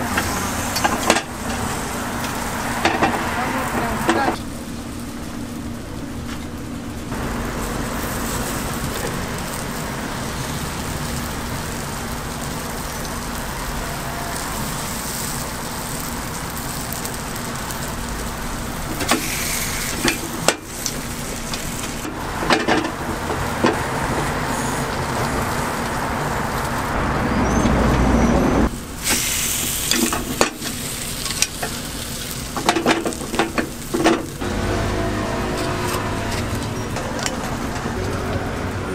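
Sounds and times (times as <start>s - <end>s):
batter sizzling in iron molds: 0.0s - 26.9s, 28.7s - 38.9s.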